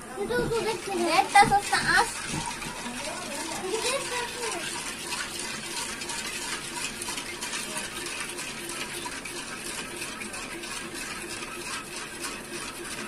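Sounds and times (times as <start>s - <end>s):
hissing syrup: 0.0s - 13.0s
metal spoon scraping a pan: 0.6s - 13.0s.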